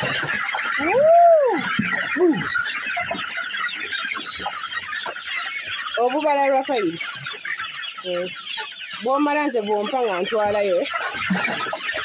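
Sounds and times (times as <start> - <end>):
chicks peeping and clucking: 0.0 - 12.0.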